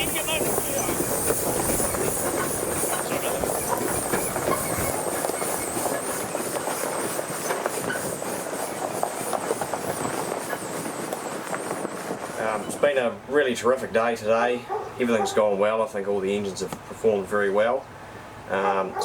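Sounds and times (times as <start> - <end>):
steam engine clatter and rumble: 0.0 - 19.0.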